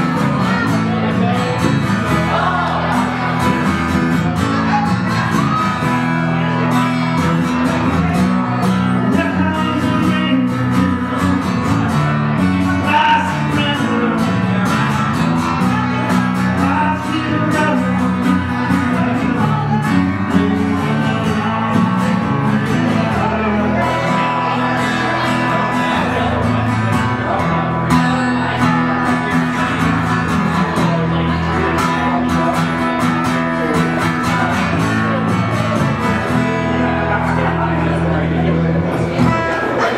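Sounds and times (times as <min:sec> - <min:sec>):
person singing: 0:00.0 - 0:37.7
acoustic guitar strummed and picked: 0:00.0 - 0:39.9.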